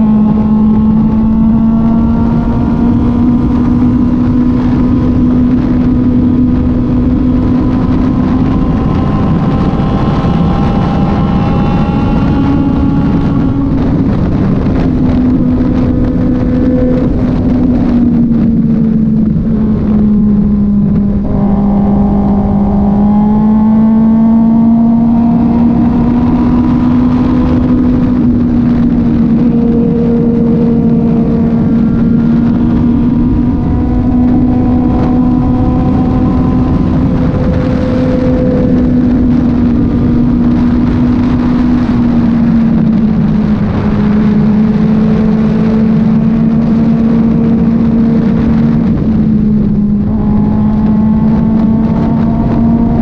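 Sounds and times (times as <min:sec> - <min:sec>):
motorcycle engine cruising: 0:00.0 - 0:53.0
road and wind noise: 0:00.0 - 0:53.0.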